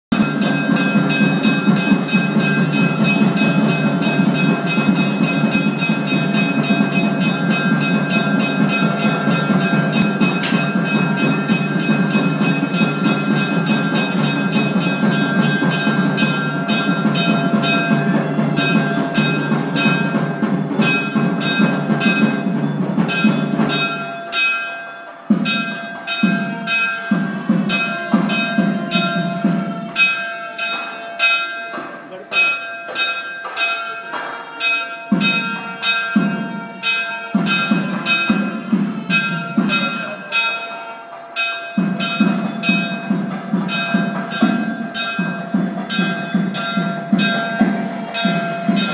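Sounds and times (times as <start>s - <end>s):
bells rung rapidly: 0.1s - 48.9s.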